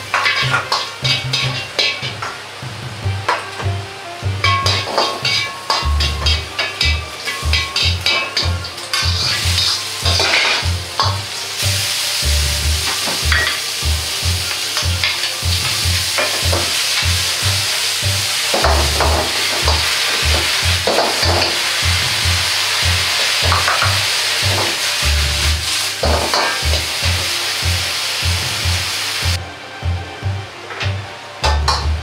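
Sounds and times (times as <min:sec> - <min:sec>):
food sizzling in a wok: 0:00.0 - 0:29.4
ladle scraping and knocking wok: 0:00.0 - 0:29.4.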